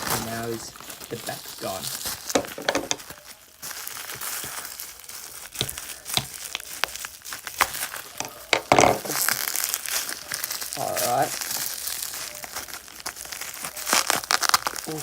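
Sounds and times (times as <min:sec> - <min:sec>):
plastic packaging crinkling and tearing: 0:00.0 - 0:15.0.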